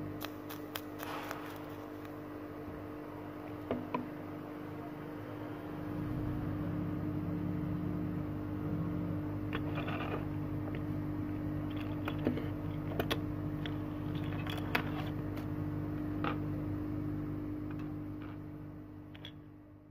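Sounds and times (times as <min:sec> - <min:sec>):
low hum from bench equipment: 0:00.0 - 0:19.9.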